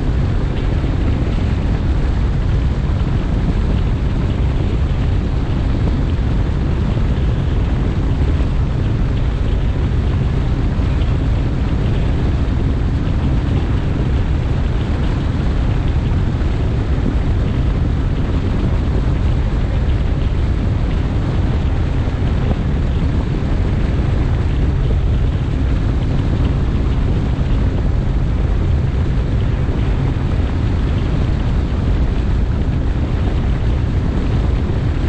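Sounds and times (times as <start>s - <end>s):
outboard motor: 0.0s - 35.0s
water noise: 0.0s - 35.0s
wind buffeting microphone: 0.0s - 35.0s.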